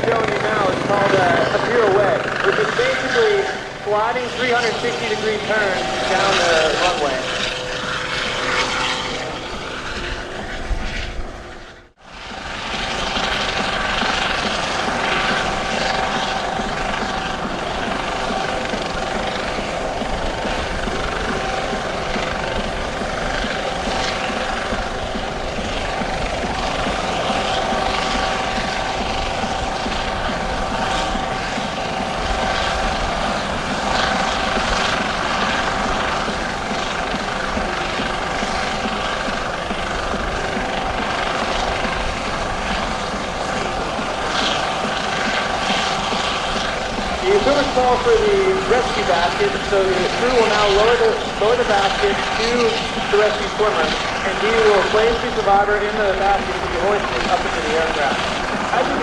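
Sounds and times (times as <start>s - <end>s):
helicopter rotor and turbine: 0.0s - 59.0s
steady high whine: 0.0s - 59.0s.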